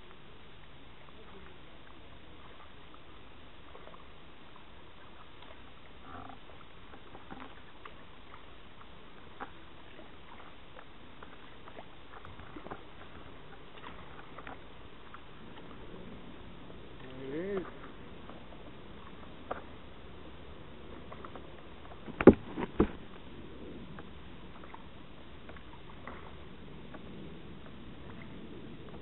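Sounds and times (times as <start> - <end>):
paddle splashes and drips: 0.0 - 29.0
steady background hiss: 0.0 - 29.0
water lapping against hull: 0.0 - 29.0.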